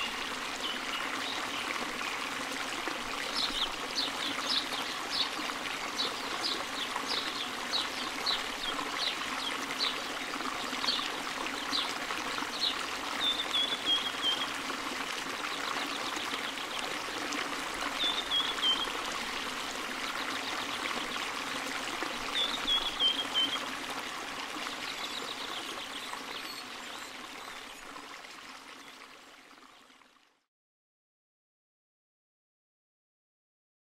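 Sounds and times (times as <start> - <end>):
stream splashing and trickling: 0.0 - 30.5.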